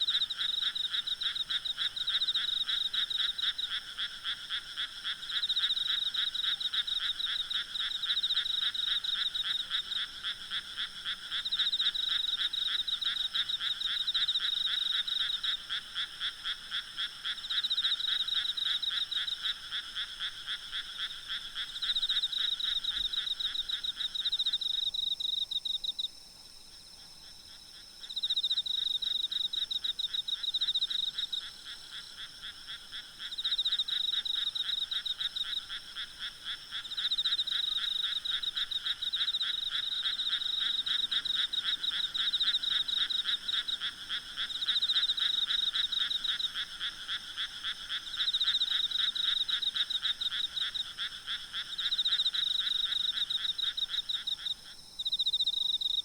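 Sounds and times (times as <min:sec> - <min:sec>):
frogs calling in pulsing trills: 0:00.0 - 0:56.0.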